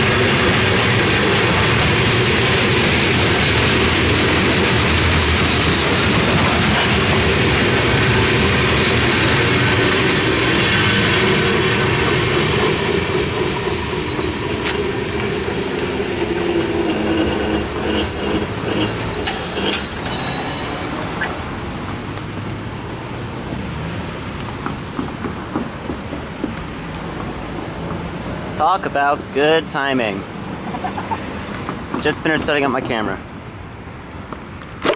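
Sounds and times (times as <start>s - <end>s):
freight train rumbling and clattering: 0.0s - 22.0s, 23.4s - 33.1s.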